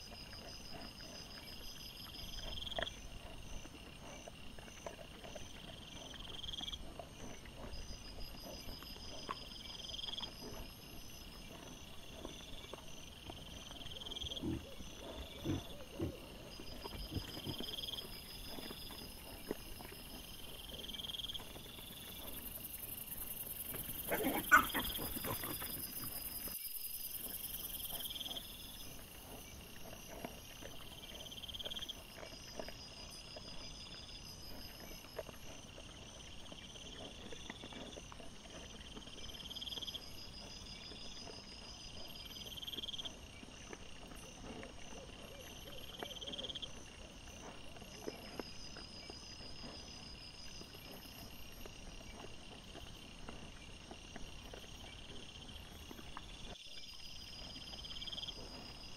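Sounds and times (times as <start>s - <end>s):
night insects chirping: 0.0s - 58.9s.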